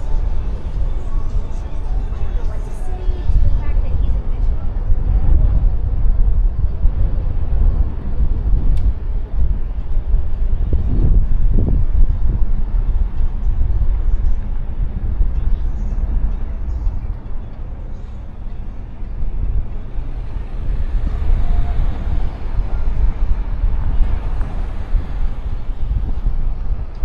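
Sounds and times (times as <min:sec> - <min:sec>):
road and traffic noise: 0:00.0 - 0:27.0
wind buffeting microphone: 0:00.0 - 0:27.0.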